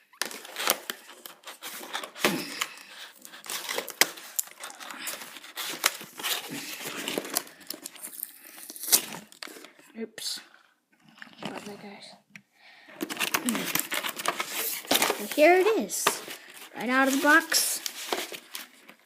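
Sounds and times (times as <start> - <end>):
packaging crinkling and tearing: 0.0 - 9.8, 13.0 - 19.0.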